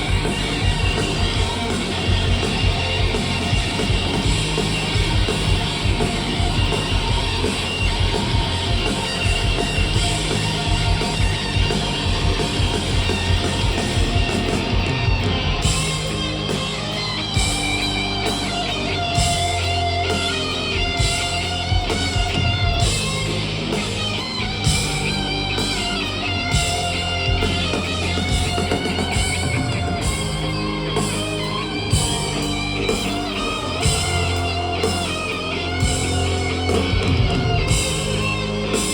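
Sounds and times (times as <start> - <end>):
electric guitar: 0.0 - 38.9
rock band playing: 0.0 - 38.9
steady bass line: 0.0 - 38.9.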